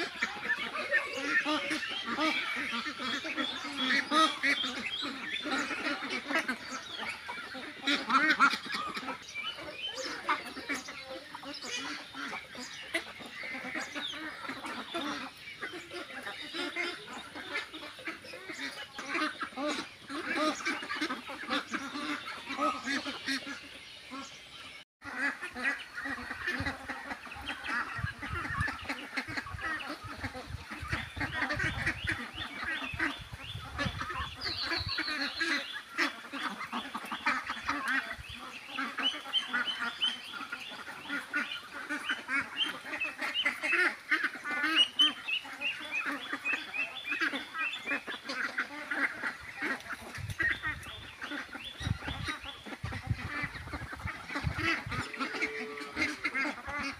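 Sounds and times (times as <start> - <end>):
ducks quacking: 0.0 - 56.9.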